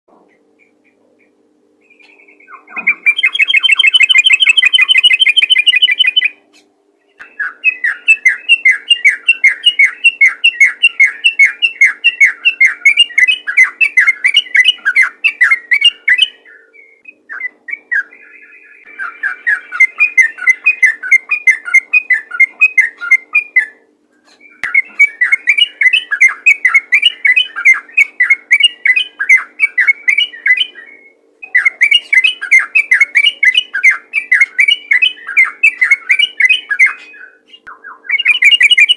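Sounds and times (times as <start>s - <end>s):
bulbul chattering song: 0.1s - 38.9s.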